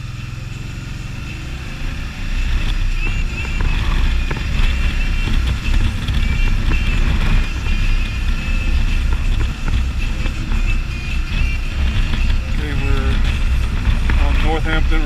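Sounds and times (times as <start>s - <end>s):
motorcycle engine running: 0.0s - 15.0s
tyre and road noise: 0.0s - 15.0s
wind rumble on microphone: 0.0s - 15.0s.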